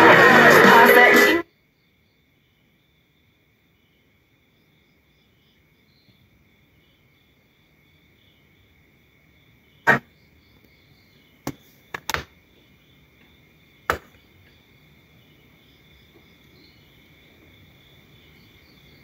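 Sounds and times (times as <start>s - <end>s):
faint high insect chirring: 1.4s - 19.0s.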